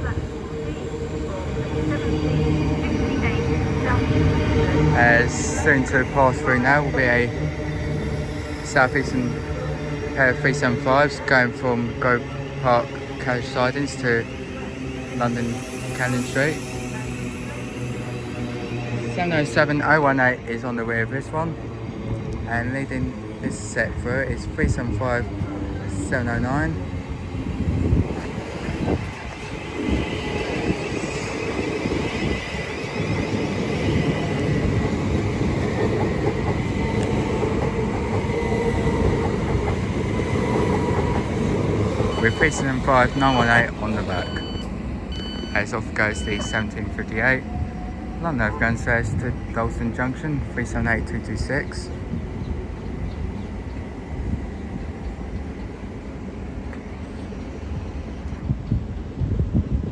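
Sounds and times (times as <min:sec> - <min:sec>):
train high whine: 0:00.0 - 0:59.9
train wheels rumbling on rail: 0:00.0 - 0:59.9.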